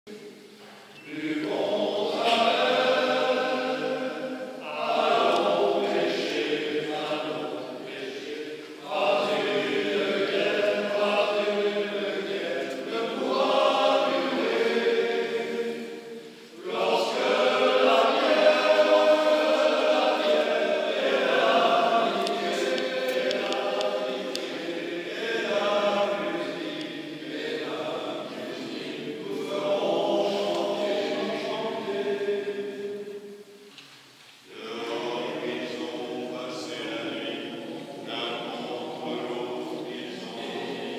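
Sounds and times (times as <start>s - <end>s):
men's choir singing: 0.2s - 33.6s, 34.5s - 40.9s.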